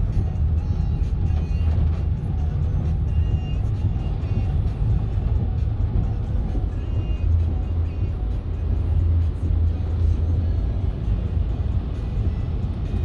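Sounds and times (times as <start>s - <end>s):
low rumble inside car: 0.0s - 13.0s
music playing: 0.0s - 13.0s
rain on car: 0.0s - 13.0s
storm wind buffeting car: 0.0s - 13.0s.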